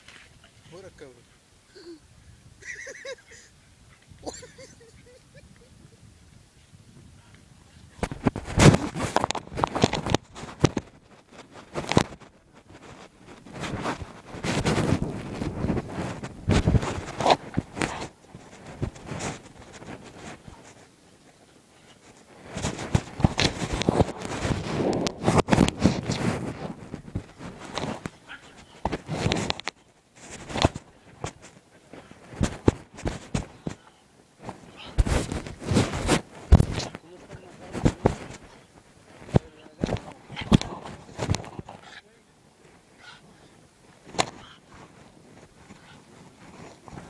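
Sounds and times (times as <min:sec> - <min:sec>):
rustling: 0:02.6 - 0:47.0.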